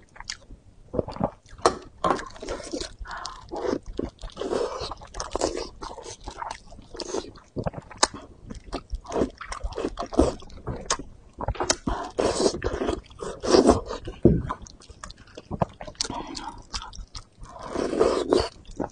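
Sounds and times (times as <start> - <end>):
wet chewing and mouth smacks: 1.0 - 18.9.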